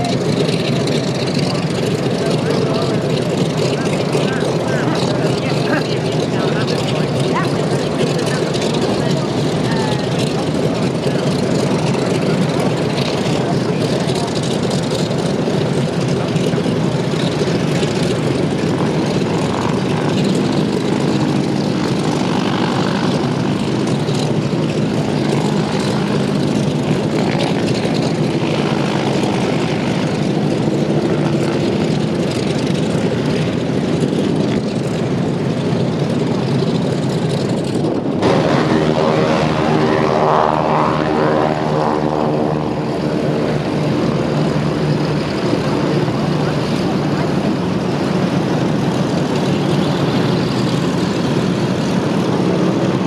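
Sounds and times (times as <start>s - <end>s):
close engine steady drone: 0.0s - 53.0s
propeller aircraft engines running: 0.0s - 53.0s.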